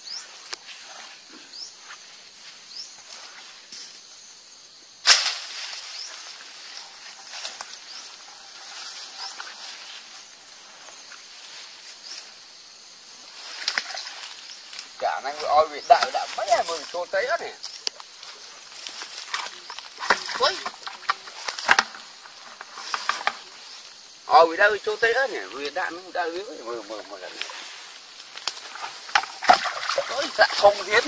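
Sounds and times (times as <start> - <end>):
footsteps through grass: 0.0 - 4.1, 5.1 - 31.0.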